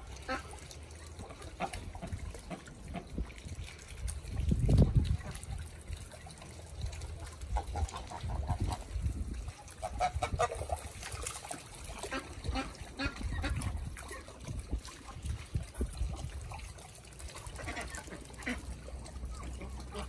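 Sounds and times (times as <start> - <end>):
geese splashing in water: 0.0 - 20.0.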